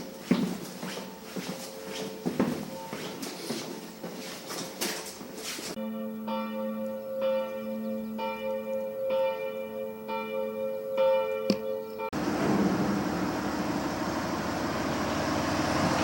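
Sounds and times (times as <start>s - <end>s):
church bell tolling: 0.0s - 4.0s, 5.7s - 14.8s.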